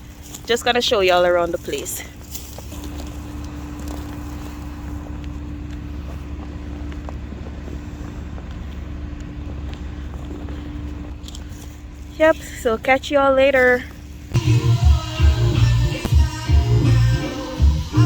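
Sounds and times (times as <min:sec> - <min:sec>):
constant hum: 0:00.0 - 0:18.0
vehicle engine rumble: 0:00.0 - 0:18.0.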